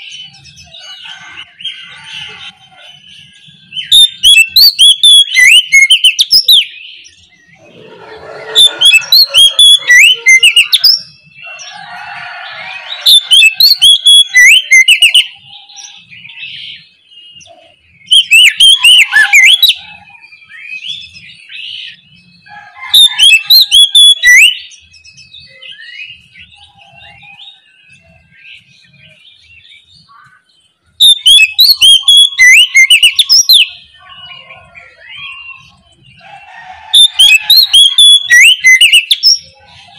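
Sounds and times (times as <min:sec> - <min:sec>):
songbird singing loudly: 0:00.0 - 0:39.9.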